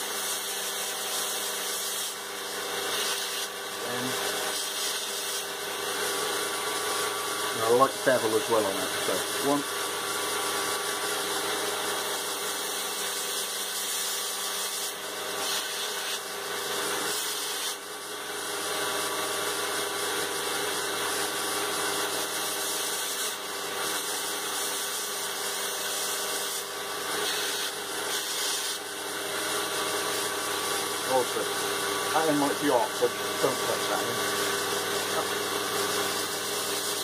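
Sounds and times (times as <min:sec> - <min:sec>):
electric grinder motor running: 0:00.0 - 0:37.0
metal rod rasping on grinder: 0:00.1 - 0:16.3, 0:22.0 - 0:37.0.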